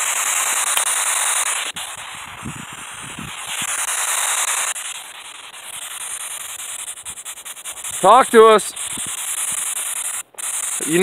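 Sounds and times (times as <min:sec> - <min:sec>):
steady hiss of noise: 0:00.0 - 0:11.0.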